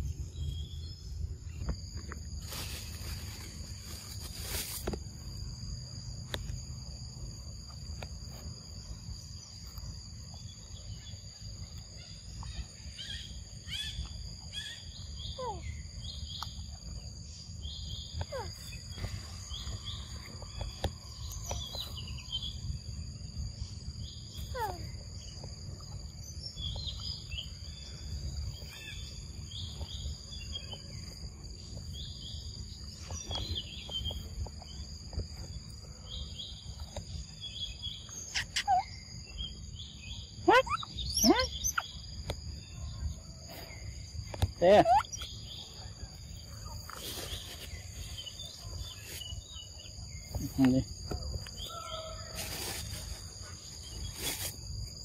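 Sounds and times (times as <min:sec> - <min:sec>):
constant low rumble: 0:00.0 - 0:55.0
insects high-pitched tones: 0:00.0 - 0:55.0
birds chirping: 0:08.2 - 0:52.3.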